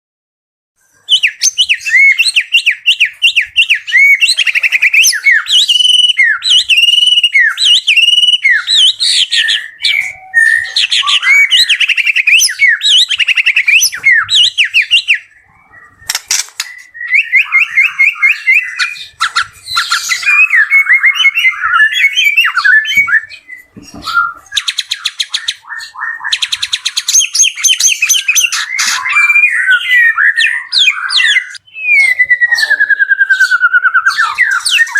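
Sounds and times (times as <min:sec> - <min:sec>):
songbird whistling and trilling: 0:00.8 - 0:34.9.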